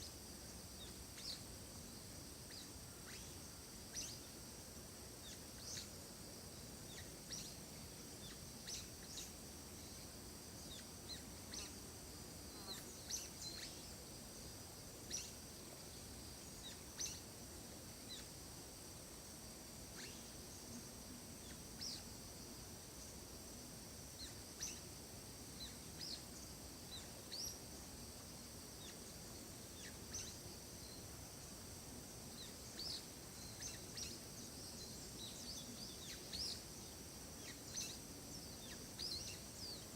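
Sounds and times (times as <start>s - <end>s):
steady high-pitched hum: 0.0s - 39.9s.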